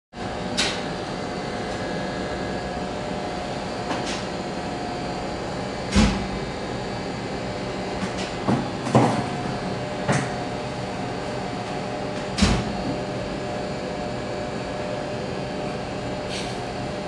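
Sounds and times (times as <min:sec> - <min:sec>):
ventilation and machinery hum: 0:00.2 - 0:17.0.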